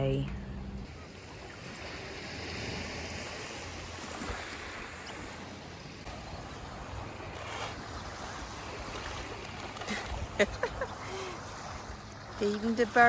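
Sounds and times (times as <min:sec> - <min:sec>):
ocean surf washing ashore: 0:00.8 - 0:13.0.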